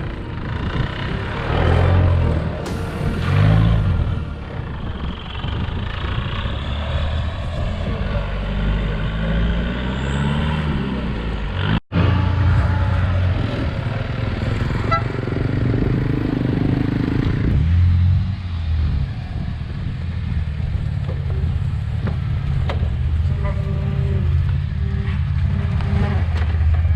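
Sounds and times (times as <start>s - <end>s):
off-road vehicle engine revving: 0.6s - 18.4s, 21.1s - 26.9s.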